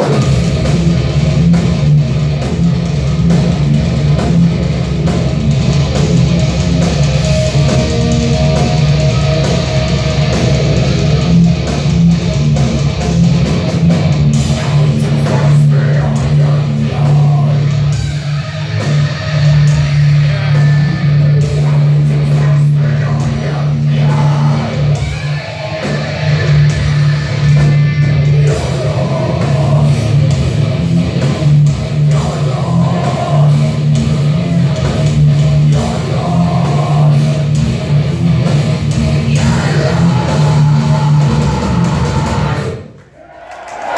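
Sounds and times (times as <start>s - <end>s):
heavy metal band playing live: 0.0s - 42.9s.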